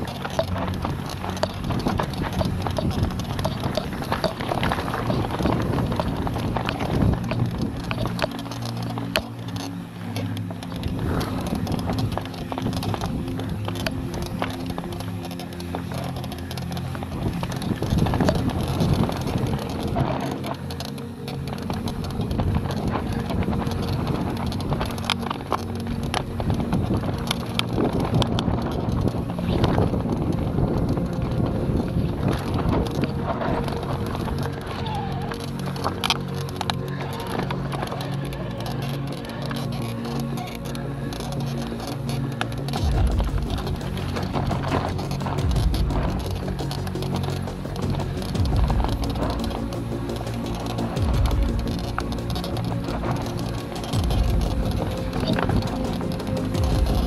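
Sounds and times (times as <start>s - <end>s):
mountain bike clattering and rattling: 0.0s - 57.0s
tyre noise on dirt: 0.0s - 57.0s
wind buffeting microphone: 0.0s - 57.0s.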